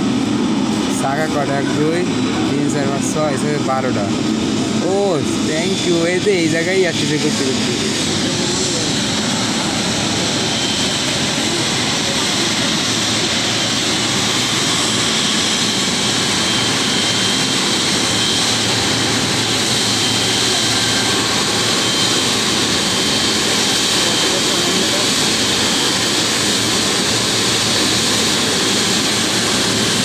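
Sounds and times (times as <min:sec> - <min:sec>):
jet engines taxiing: 0:00.0 - 0:30.0.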